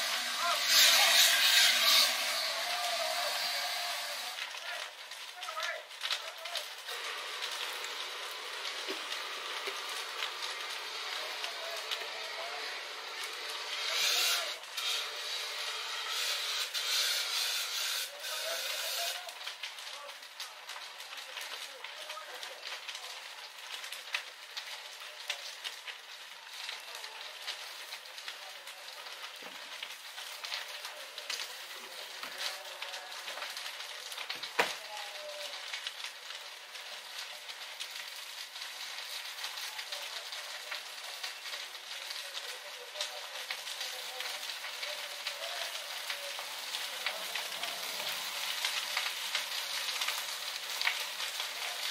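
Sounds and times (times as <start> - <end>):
fire crackling and hissing: 0.0 - 51.9.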